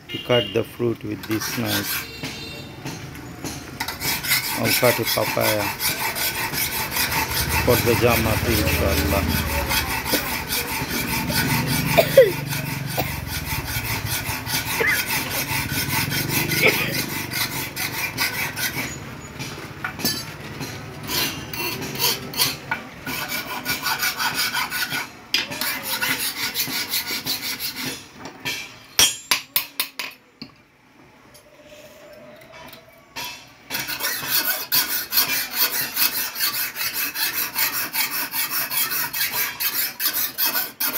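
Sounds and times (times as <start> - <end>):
file rasping on steel blade: 0.4 - 28.6, 33.2 - 40.9.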